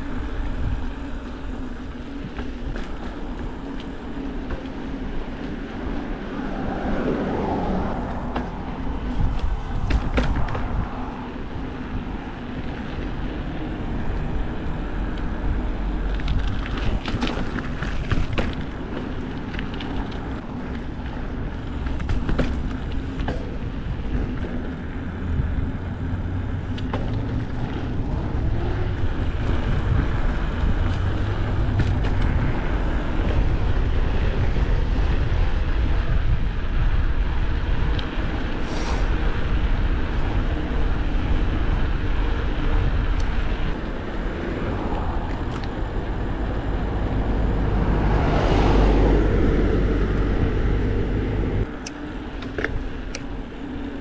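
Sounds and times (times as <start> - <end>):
wind on microphone: 0.0 - 18.9, 19.5 - 54.0
bike clicks and rattles: 0.0 - 47.8, 49.4 - 54.0.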